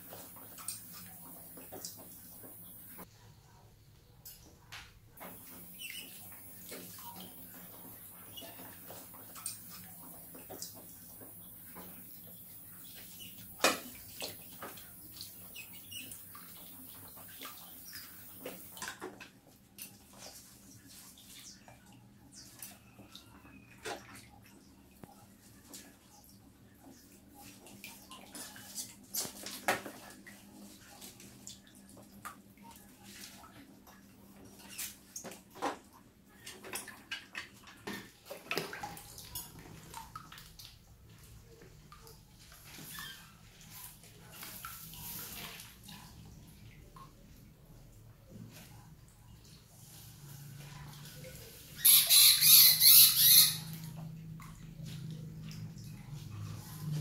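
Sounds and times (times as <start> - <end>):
water splashing and sloshing: 0.0 - 3.6, 4.4 - 57.0.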